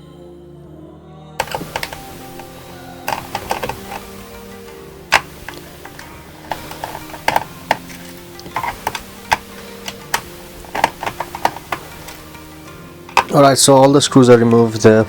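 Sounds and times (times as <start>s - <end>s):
soft background music: 0.0s - 15.0s
screwdriver and screws clicking: 1.4s - 13.5s.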